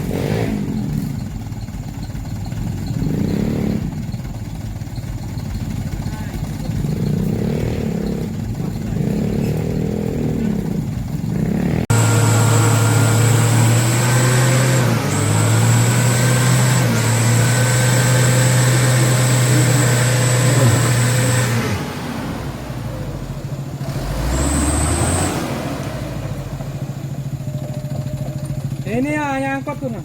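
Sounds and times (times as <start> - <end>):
truck diesel engine revving: 0.0 - 30.0.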